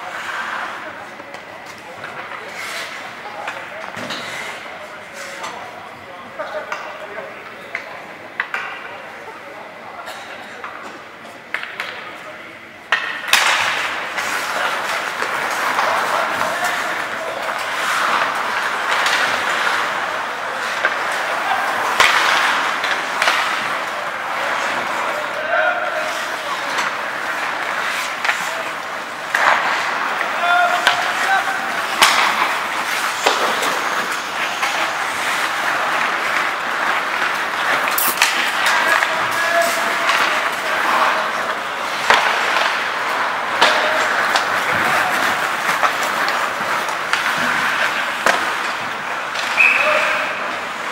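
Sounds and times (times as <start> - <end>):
skates scraping ice: 0.0 - 12.3, 12.9 - 50.9
hockey sticks and puck clicking: 6.4 - 9.0, 10.0 - 12.2, 12.9 - 50.9.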